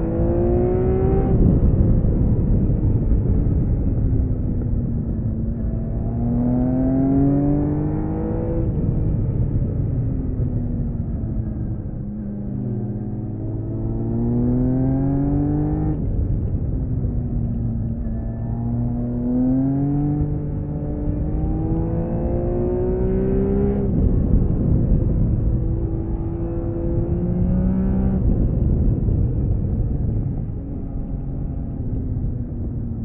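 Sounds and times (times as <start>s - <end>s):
motorcycle engine accelerating: 0.0s - 33.0s
wind rush: 0.0s - 33.0s.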